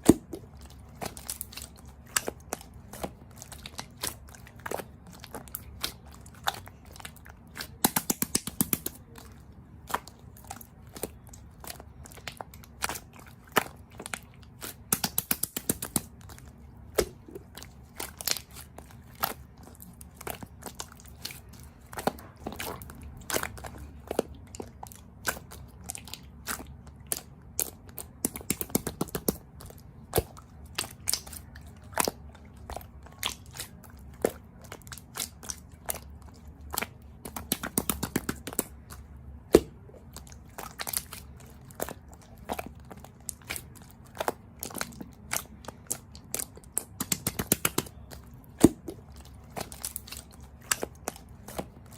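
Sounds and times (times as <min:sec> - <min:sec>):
chewing crunchy food: 0:00.0 - 0:51.9.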